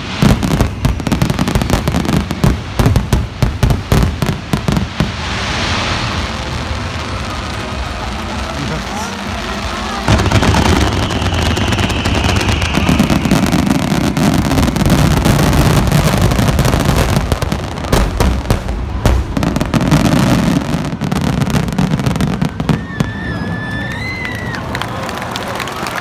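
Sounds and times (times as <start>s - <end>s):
fireworks bursting: 0.0s - 24.6s.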